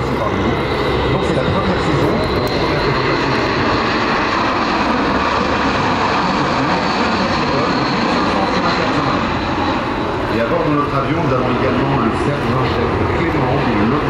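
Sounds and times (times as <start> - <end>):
turboprop aircraft passing overhead: 0.0 - 14.0.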